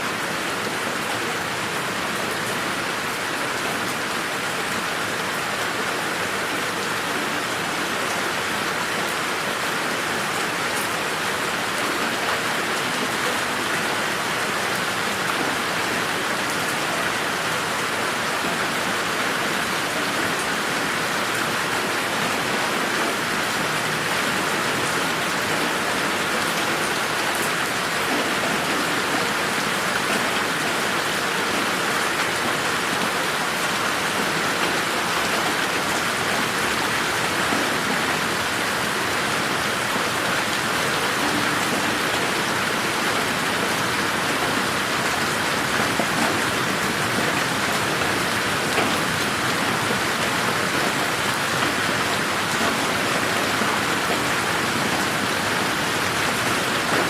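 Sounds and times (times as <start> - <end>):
rain pattering: 0.1 - 57.0.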